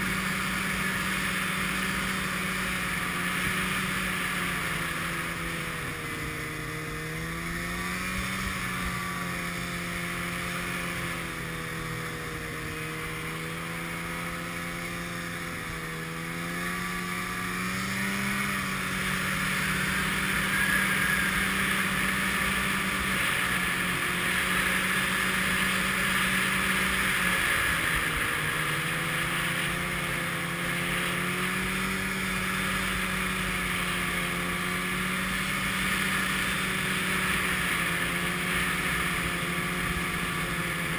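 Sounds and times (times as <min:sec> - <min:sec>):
snowmobile engine running: 0:00.0 - 0:40.9
wind and track hiss: 0:00.0 - 0:40.9.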